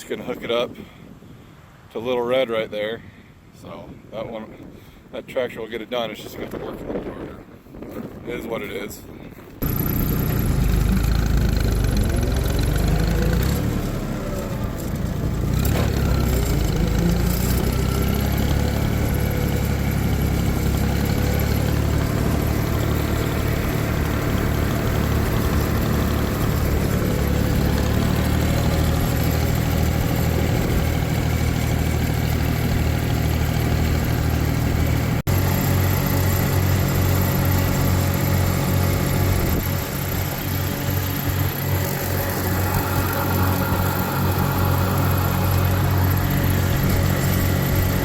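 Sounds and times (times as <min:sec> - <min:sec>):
tractor engine running: 0:09.6 - 0:48.0.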